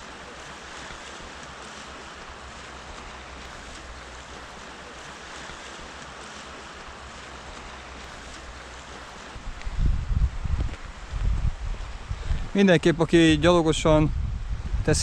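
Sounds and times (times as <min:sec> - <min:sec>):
fast river rushing: 0:00.0 - 0:13.4.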